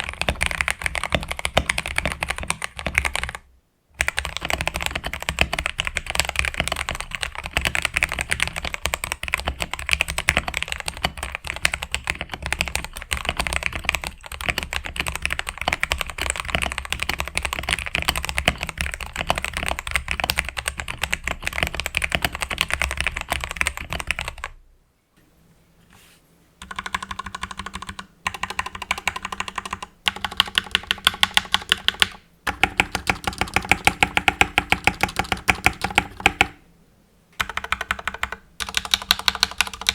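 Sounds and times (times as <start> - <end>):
mechanical keyboard typing: 0.0 - 3.4, 4.0 - 24.5, 26.6 - 36.6, 37.4 - 39.9.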